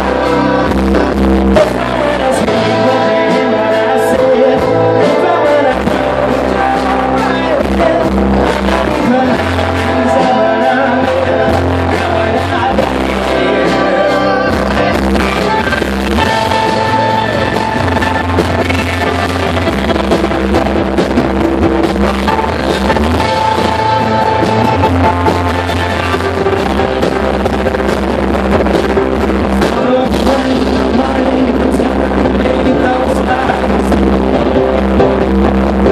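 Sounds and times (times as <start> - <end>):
person singing: 0.0 - 27.9, 29.3 - 35.9
rock band playing: 0.0 - 35.9.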